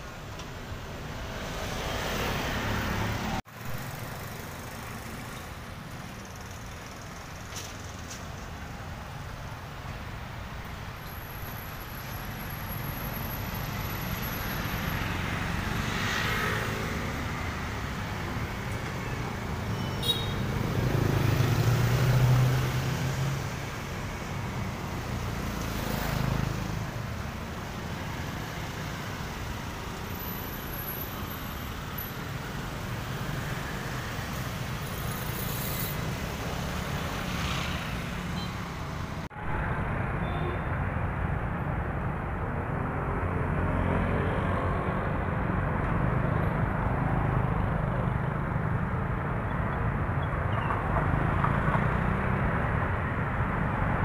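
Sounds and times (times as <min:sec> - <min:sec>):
passing motorbikes and cars: 0:00.9 - 0:09.2, 0:11.4 - 0:54.0.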